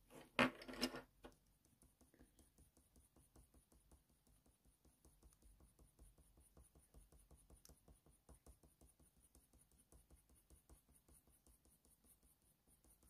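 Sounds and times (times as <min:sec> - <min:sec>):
colour pencil scratching on paper: 0:01.3 - 0:13.0.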